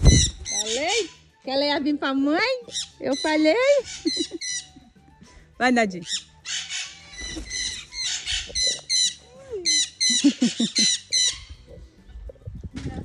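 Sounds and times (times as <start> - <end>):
birds squawking: 0.0 - 1.3, 2.1 - 5.0, 5.9 - 12.3.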